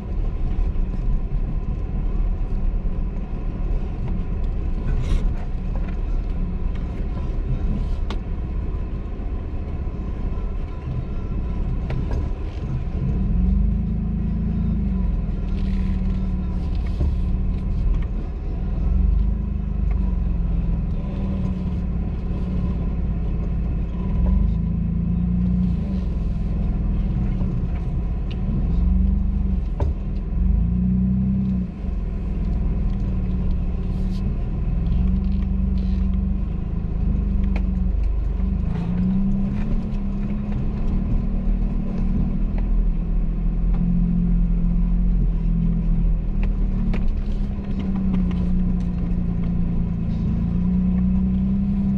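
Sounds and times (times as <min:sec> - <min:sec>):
off-road vehicle engine revving: 0:09.8 - 0:51.9.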